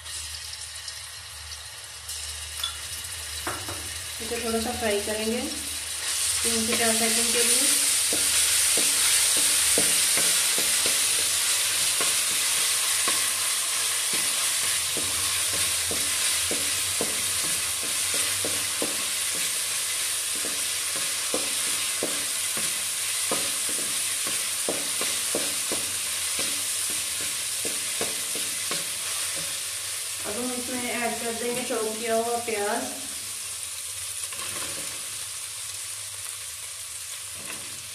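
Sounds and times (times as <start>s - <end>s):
paste sizzling in hot oil: 0.0s - 37.9s.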